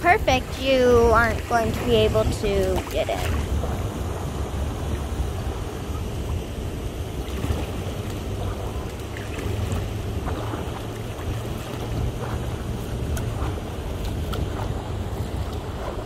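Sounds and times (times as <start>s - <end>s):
river water flowing: 0.0s - 16.0s
wind rumbling on microphone: 0.0s - 16.0s.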